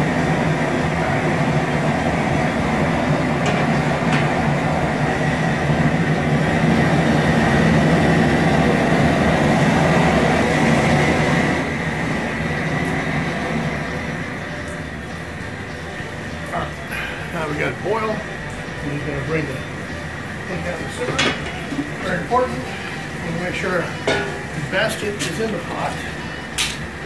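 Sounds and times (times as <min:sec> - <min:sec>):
propane burner roaring: 0:00.0 - 0:27.0.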